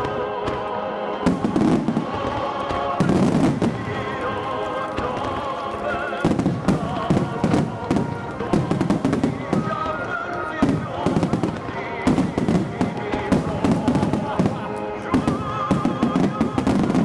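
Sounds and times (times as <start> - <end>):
fireworks bursting and crackling: 0.0 - 17.0
music with singing melody: 0.0 - 17.0.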